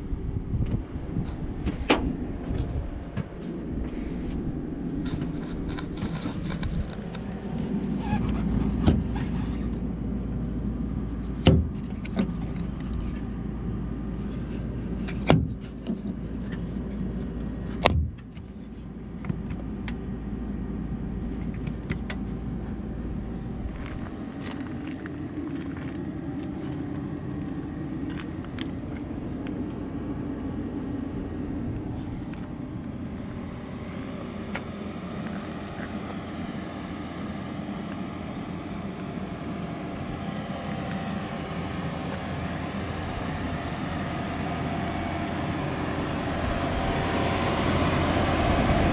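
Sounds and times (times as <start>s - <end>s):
vehicle cabin noise: 0.0s - 48.9s.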